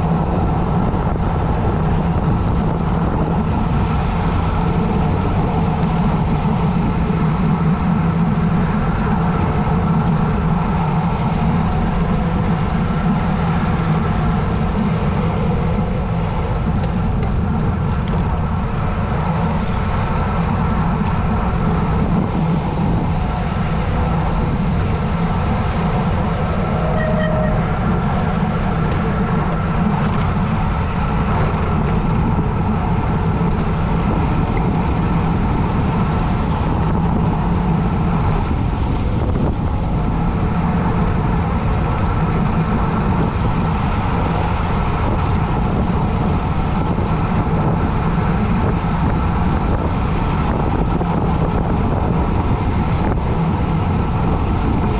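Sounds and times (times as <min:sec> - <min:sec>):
wind roaring over microphone: 0:00.0 - 0:54.9.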